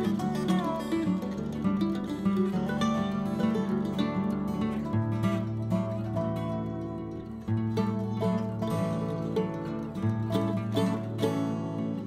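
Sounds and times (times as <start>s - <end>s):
plucked instrumental music: 0.0s - 12.0s.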